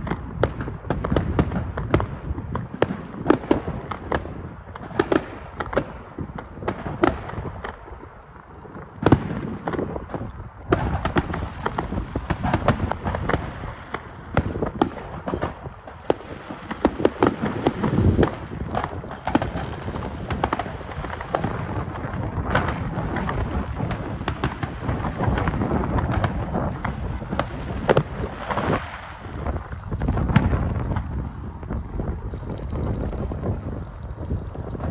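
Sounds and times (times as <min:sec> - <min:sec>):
fireworks bursting and crackling: 0:00.0 - 0:34.9.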